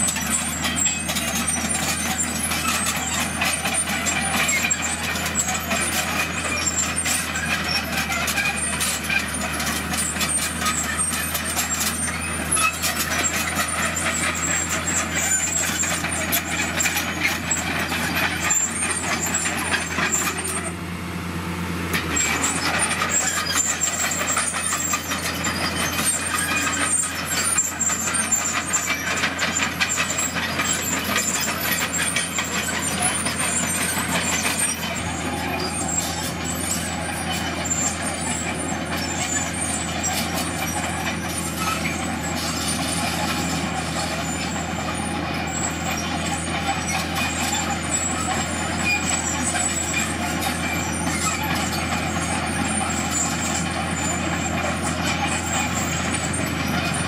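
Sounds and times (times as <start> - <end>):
clanks and knocks of tracks and rocks: 0.0 - 21.0, 21.6 - 57.0
bulldozer diesel engine running: 0.0 - 57.0.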